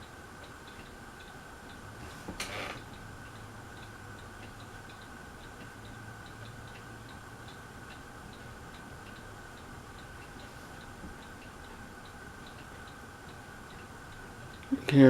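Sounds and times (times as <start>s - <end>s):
ceiling fan humming: 0.0s - 15.0s
fan light regular clicking: 0.0s - 15.0s.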